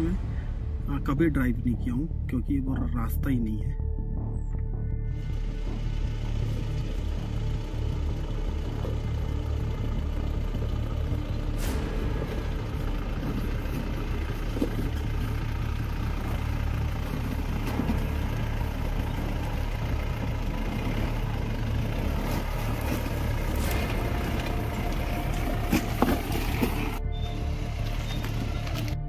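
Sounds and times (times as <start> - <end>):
engine droning at low revs: 0.0 - 29.0.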